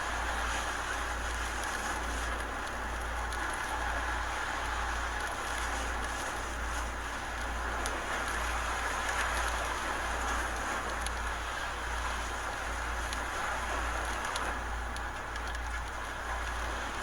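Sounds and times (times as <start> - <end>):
driving rain and wind: 0.0 - 17.0.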